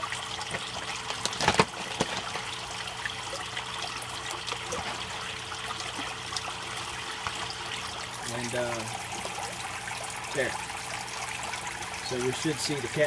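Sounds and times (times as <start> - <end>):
water trickling into tank: 0.0 - 13.0.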